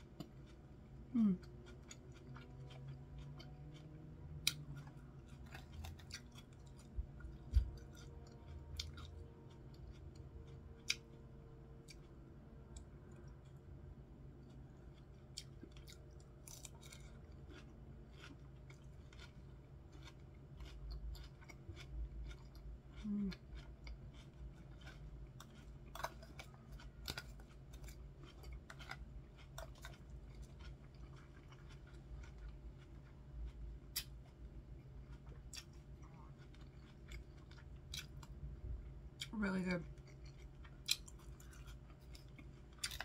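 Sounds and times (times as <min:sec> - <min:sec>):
chewing crunchy lettuce: 0:00.0 - 0:43.0
low hum: 0:00.0 - 0:43.0.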